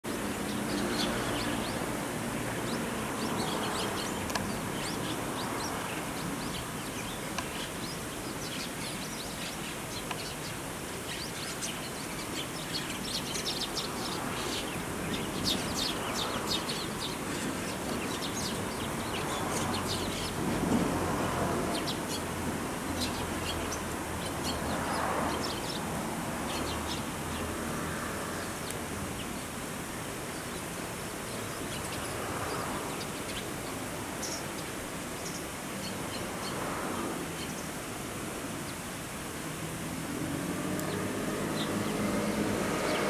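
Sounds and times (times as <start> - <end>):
small birds chirping: 0.0 - 20.9, 21.6 - 37.8, 40.4 - 43.0
outdoor background noise: 0.0 - 43.0.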